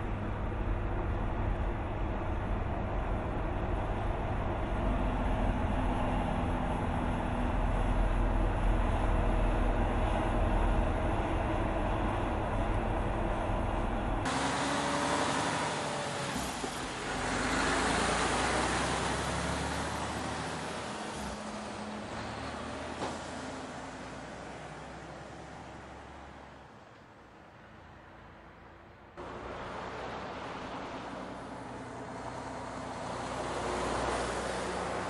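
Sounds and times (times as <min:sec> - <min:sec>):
passing truck tyre noise: 0:00.0 - 0:26.8, 0:27.4 - 0:35.0
truck diesel engine drone: 0:00.0 - 0:35.0.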